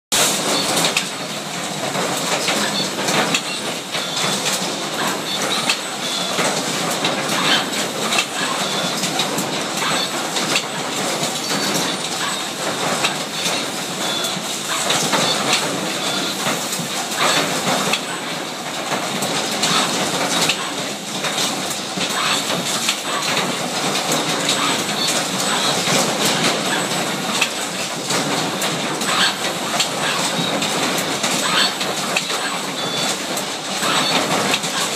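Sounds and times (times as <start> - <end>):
machine clatter of quick clicks: 0.2 - 34.9.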